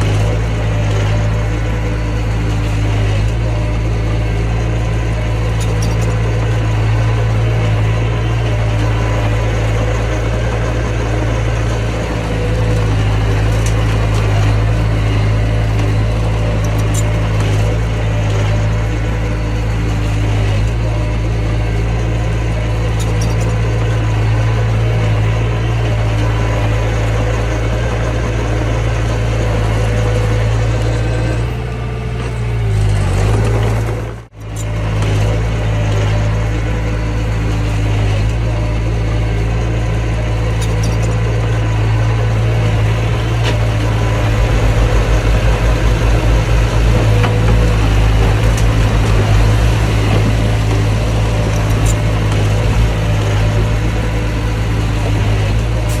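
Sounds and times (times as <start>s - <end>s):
diesel engine of heavy machinery: 0.0s - 56.0s.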